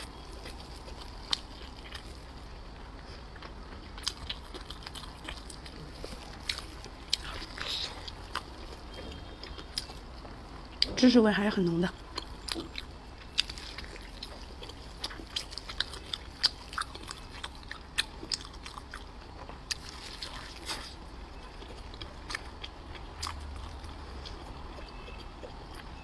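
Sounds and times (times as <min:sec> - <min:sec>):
biting and chewing: 0:00.0 - 0:11.0, 0:11.8 - 0:26.0.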